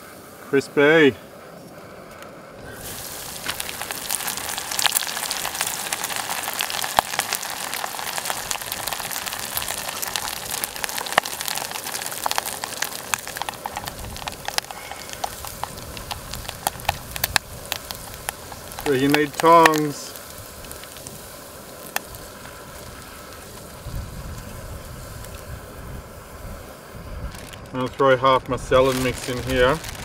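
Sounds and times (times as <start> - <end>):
deep-frying in hot oil: 2.6 - 30.0.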